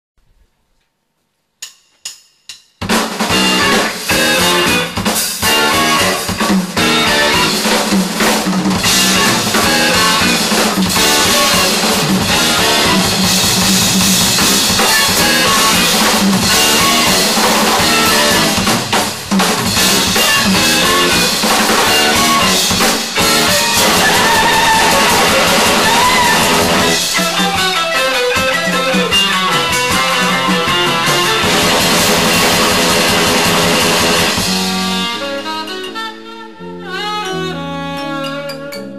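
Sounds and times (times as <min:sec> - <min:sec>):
drum kit: 0:01.6 - 0:38.9
guitar: 0:02.8 - 0:38.9
rock band playing: 0:02.8 - 0:38.9.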